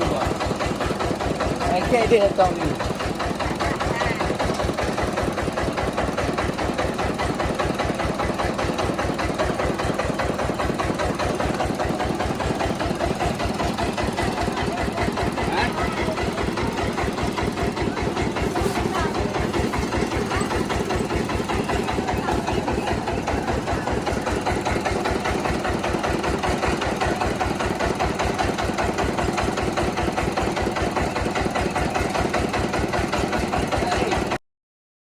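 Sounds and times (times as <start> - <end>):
rice milling machine engine: 0.0 - 34.4.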